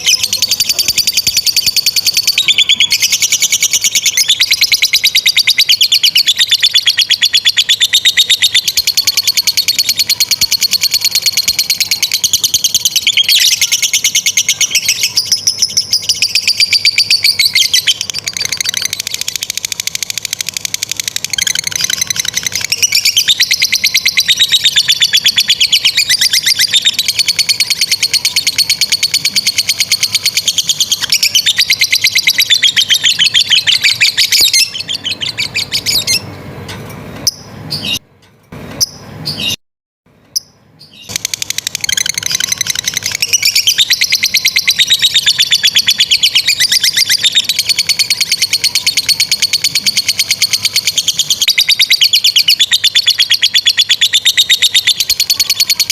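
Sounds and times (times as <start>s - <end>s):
lovebirds chattering: 0.0s - 36.3s, 40.9s - 55.9s.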